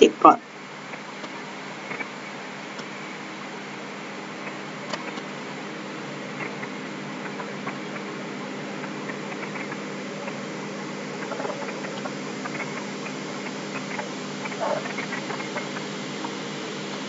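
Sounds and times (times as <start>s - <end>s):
background hiss and hum: 0.0s - 17.0s.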